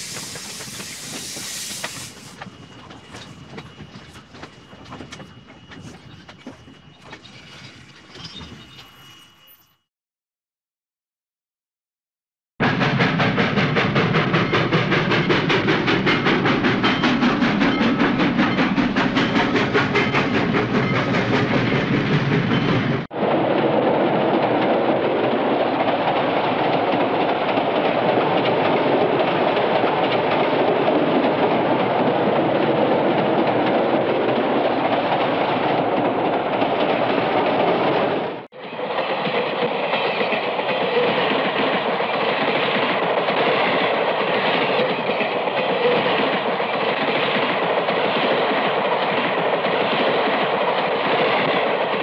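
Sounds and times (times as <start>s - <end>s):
train wheels clickety-clack: 0.0s - 9.0s, 12.6s - 23.1s, 24.1s - 52.0s
train running noise: 0.0s - 9.8s, 12.6s - 52.0s.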